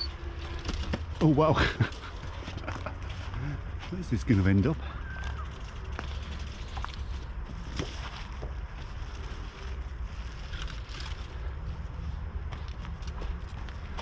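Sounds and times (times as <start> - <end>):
footsteps through undergrowth: 0.3 - 14.0.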